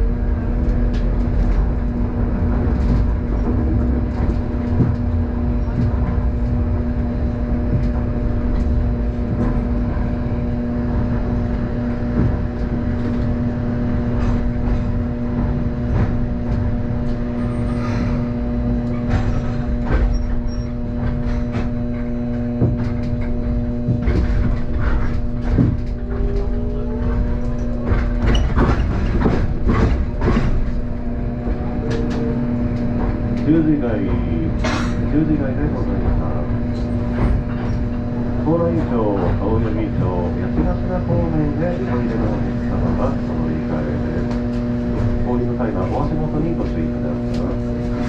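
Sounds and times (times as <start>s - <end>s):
electric hum: 0.0s - 48.0s
streetcar wheels rumbling on rail: 0.0s - 48.0s.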